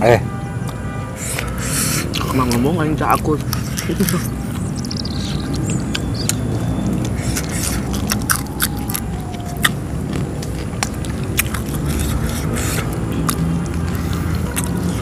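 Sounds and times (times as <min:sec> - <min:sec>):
crunchy chewing of food: 0:01.2 - 0:15.0.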